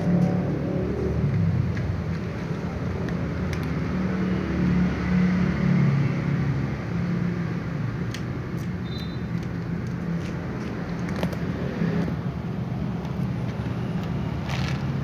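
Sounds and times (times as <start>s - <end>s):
vehicle engine rumble: 0.0s - 5.1s, 5.7s - 15.0s.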